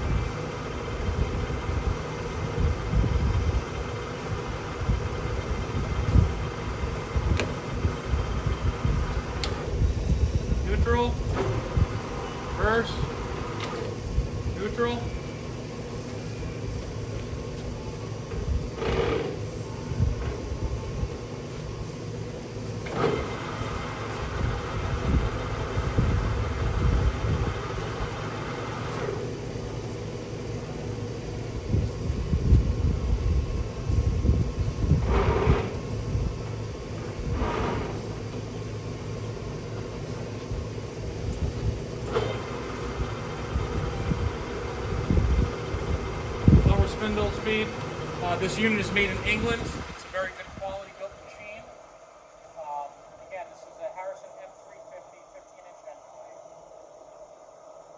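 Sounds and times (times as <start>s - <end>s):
lathe humming and rumbling: 0.0s - 54.8s.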